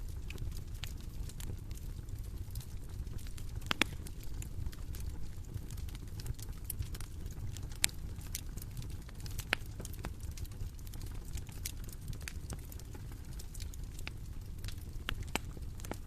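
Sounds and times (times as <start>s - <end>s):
bonfire crackling: 0.0s - 16.0s
fire popping and snapping: 0.0s - 16.0s.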